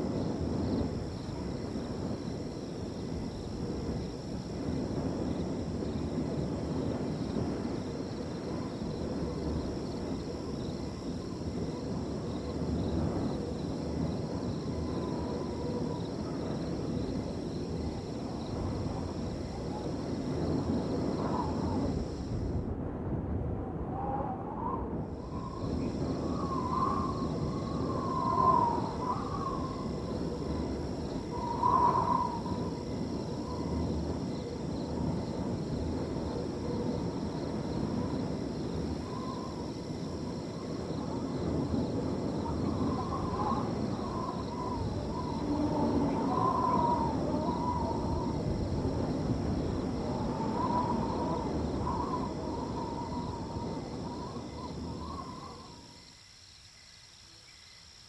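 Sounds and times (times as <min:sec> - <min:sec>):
crickets trilling: 0:00.0 - 0:58.0
wind rushing over field: 0:00.0 - 0:58.0.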